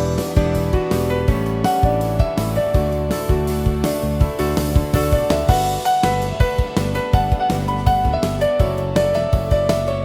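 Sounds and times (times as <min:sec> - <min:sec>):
keyboard music over a beat: 0:00.0 - 0:10.0.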